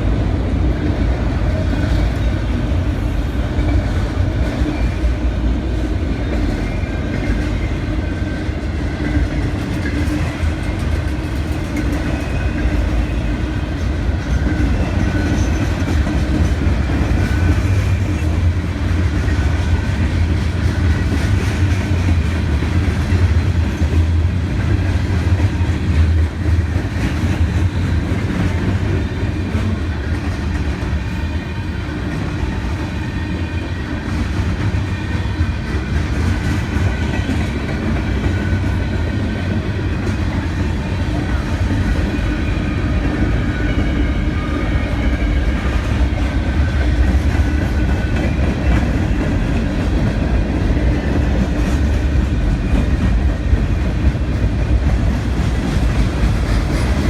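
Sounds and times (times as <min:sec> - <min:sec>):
clickety-clack over rail joints: 0:00.0 - 0:57.0
freight train rumbling past: 0:00.0 - 0:57.0.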